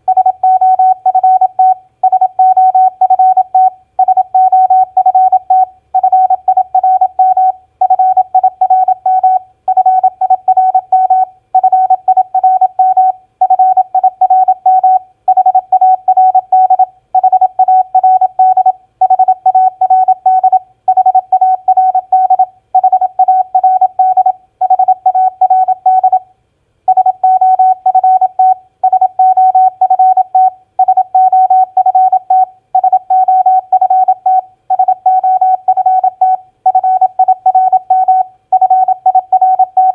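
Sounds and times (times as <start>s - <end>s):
morse code beeps: 0.1s - 26.2s, 26.9s - 39.9s.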